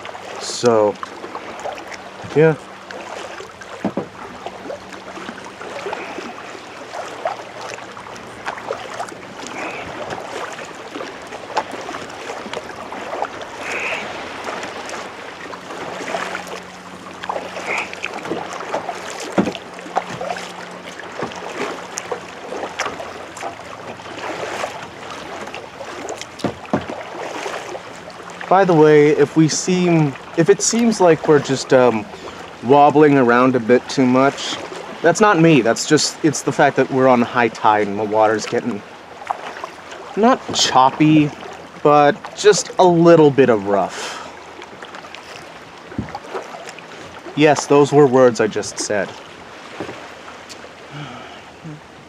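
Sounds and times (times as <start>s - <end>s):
paddle splashing in water: 0.0s - 52.0s.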